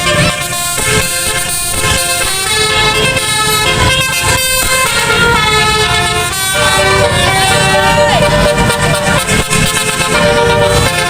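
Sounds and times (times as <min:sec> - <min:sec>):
bus engine rumble: 0:00.0 - 0:11.0
musical air horn tune: 0:00.0 - 0:11.0.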